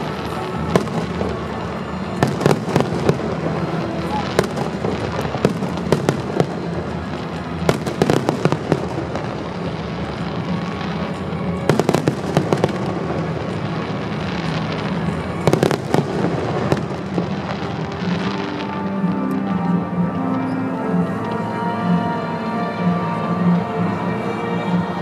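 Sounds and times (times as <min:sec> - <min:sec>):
firework shells bursting and crackling: 0:00.0 - 0:20.5
rumble of firework display: 0:00.0 - 0:24.0
music: 0:00.0 - 0:25.0.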